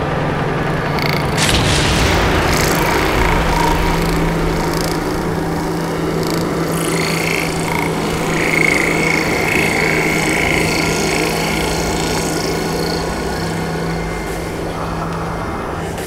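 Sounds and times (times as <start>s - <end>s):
low rumbling noise: 0.0s - 16.0s
machine-like hum: 0.0s - 16.0s.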